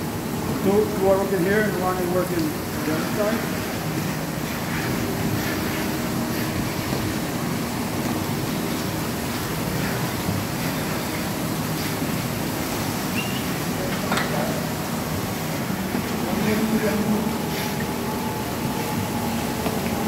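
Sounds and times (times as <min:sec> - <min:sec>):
rotary milking parlour running: 0:00.0 - 0:20.0.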